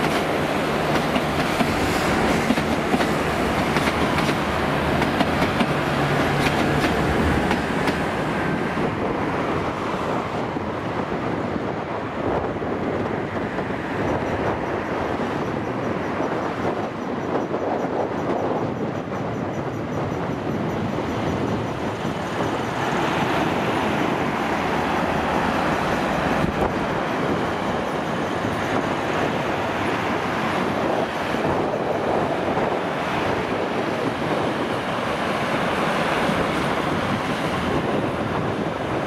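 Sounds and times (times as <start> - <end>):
diesel trains rumbling: 0.0 - 39.0.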